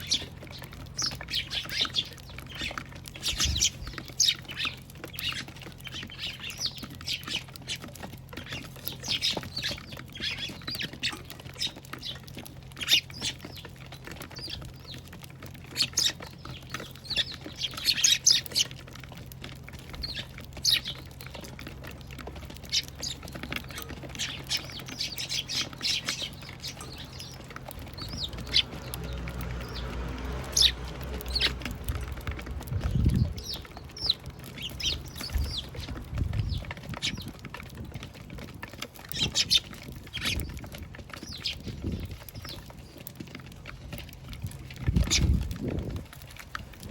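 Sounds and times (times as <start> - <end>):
sparrows chirping: 0.0 - 46.9.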